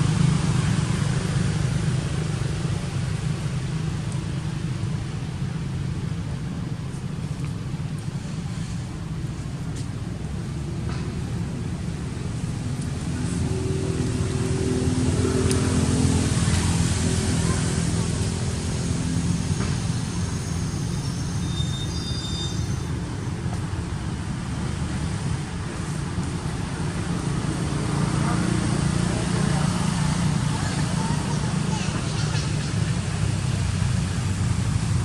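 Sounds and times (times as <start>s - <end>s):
distant traffic rumble: 0.0s - 35.0s
faint engine hum: 0.0s - 35.0s.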